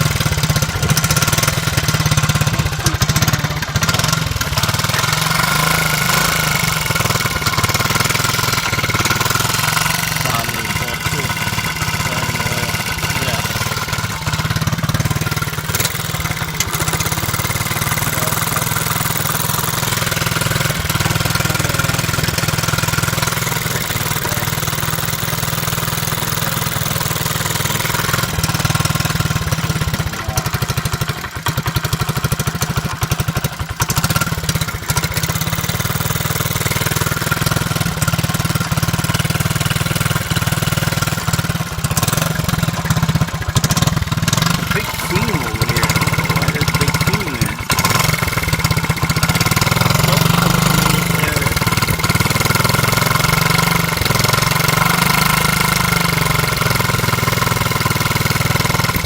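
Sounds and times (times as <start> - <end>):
small engine idling: 0.0 - 59.0.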